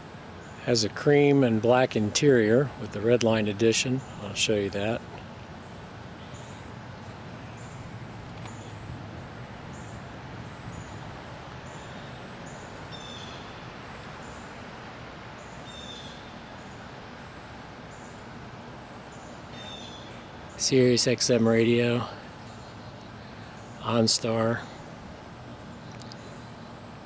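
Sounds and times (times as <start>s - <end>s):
bird chirping: 2.9s - 14.6s, 15.4s - 26.9s.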